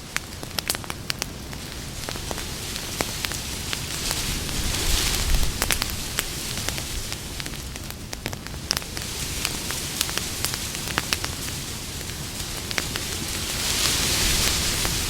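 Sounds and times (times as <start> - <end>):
campfire crackling and popping: 0.0 - 15.0
fire hiss: 0.0 - 15.0.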